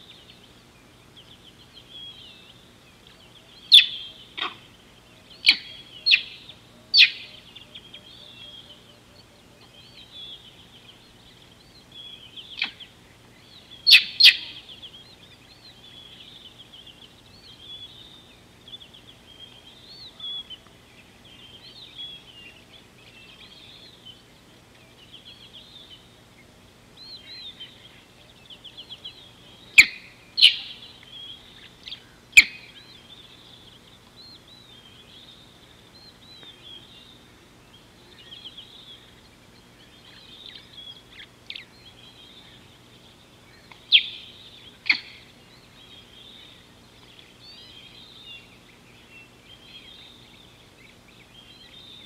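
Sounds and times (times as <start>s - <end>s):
loud sharp bird calls: 0.0s - 24.4s, 25.0s - 52.0s
birds chirping and trilling: 0.0s - 52.0s.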